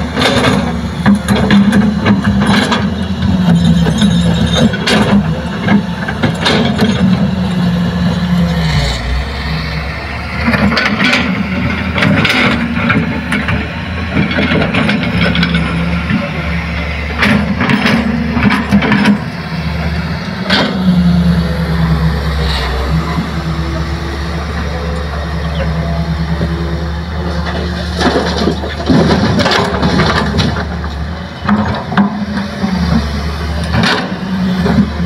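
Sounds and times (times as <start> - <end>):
excavator diesel engine under load: 0.0 - 35.0.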